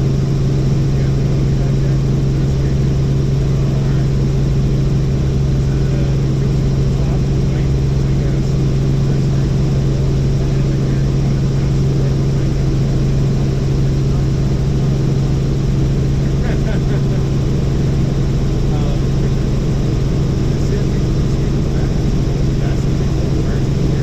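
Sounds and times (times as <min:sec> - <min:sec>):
helicopter cabin drone: 0:00.0 - 0:24.0.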